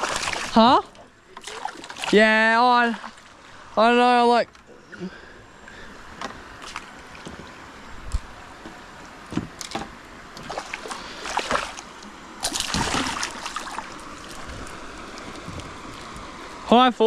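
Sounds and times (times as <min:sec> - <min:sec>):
water splashing beside kayak: 0:00.0 - 0:03.8, 0:05.7 - 0:16.7.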